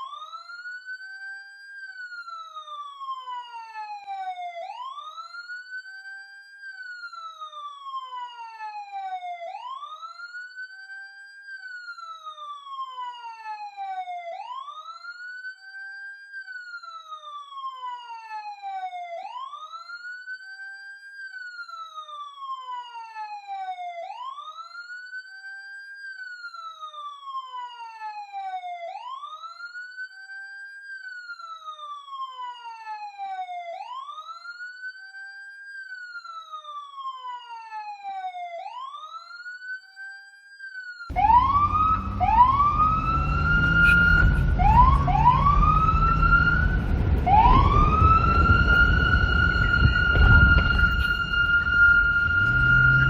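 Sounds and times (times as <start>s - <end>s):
police siren wailing: 0.0s - 53.0s.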